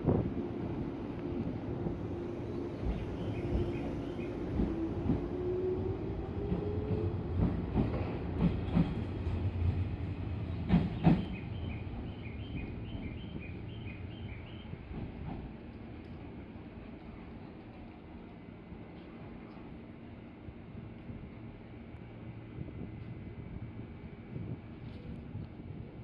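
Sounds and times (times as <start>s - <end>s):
electric train rumbling on rails: 0.0s - 26.0s.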